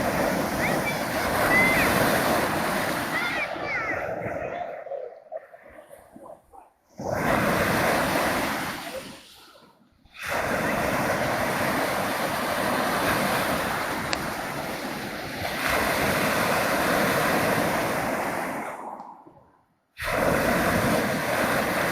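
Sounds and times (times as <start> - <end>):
wind on microphone: 0.0 - 9.3, 10.2 - 21.9
surf washing ashore: 0.0 - 19.4, 20.0 - 21.9.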